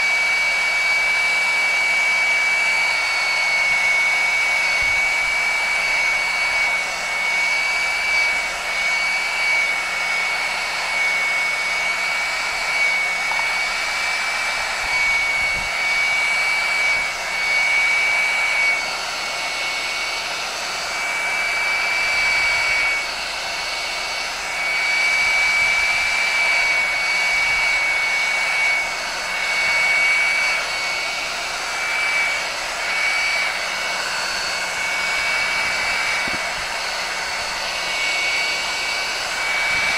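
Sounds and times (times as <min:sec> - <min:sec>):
hot-air blower whining: 0:00.0 - 0:39.9.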